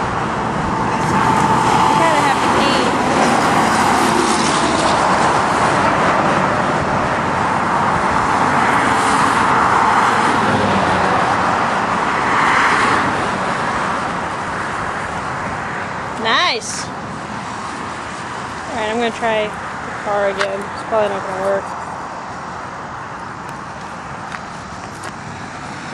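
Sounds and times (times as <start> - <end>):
road traffic rushing: 0.0 - 25.9
vehicles passing by: 0.0 - 25.9.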